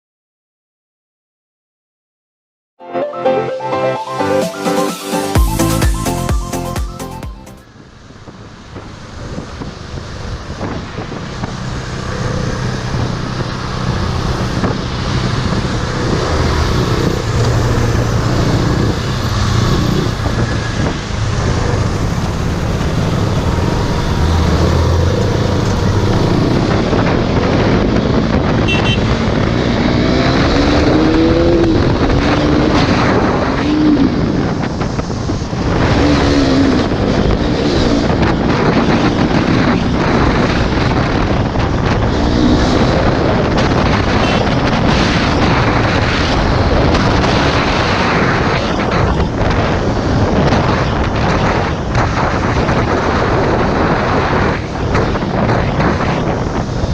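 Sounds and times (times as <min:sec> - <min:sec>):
wind rush: 0:07.6 - 0:56.9
motorcycle engine: 0:07.7 - 0:55.5.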